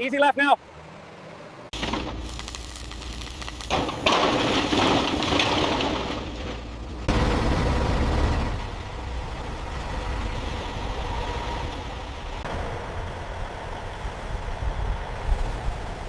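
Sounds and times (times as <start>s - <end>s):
heavy machinery engine rumbling: 1.1s - 16.0s.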